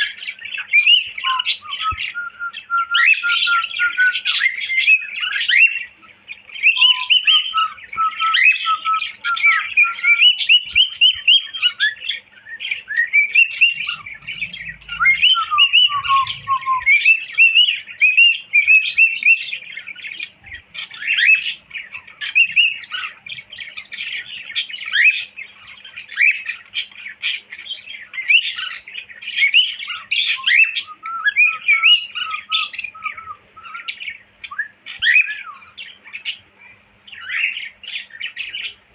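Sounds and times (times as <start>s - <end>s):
cockatiel chirping and whistling: 0.0s - 5.9s, 6.6s - 36.4s, 37.1s - 38.8s.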